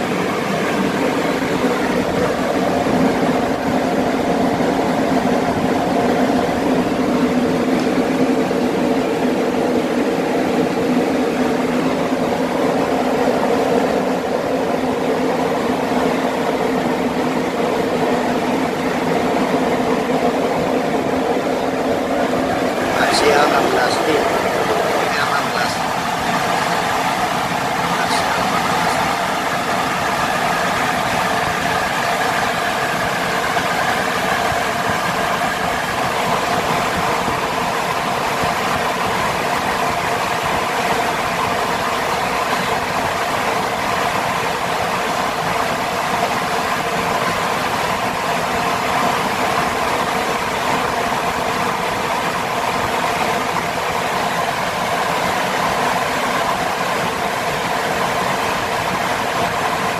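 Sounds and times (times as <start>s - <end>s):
electric fan whirring: 0.0s - 59.9s.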